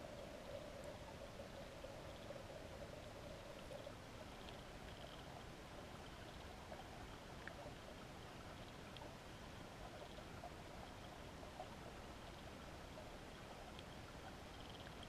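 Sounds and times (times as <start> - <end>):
faint hum: 0.0 - 15.0
faint ticks: 0.0 - 15.0
muffled underwater river ambience: 0.0 - 15.0.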